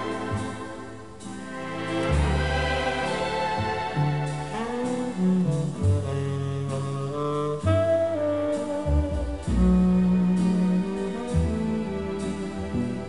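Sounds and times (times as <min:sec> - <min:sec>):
easy-listening instrumental music: 0:00.0 - 0:13.0.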